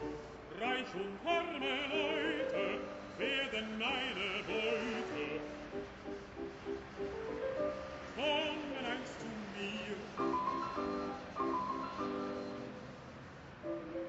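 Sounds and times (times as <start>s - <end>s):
operatic singing with vibrato: 0.0s - 6.0s, 6.8s - 13.0s
held accompanying notes: 1.4s - 14.0s.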